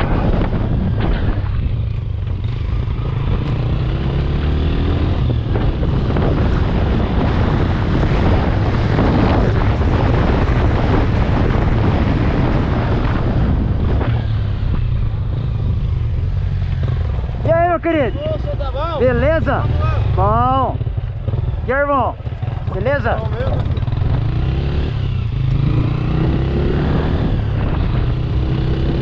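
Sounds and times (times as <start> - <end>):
small motorcycle engine running: 0.0 - 29.0
wind rushing over microphone: 0.0 - 29.0.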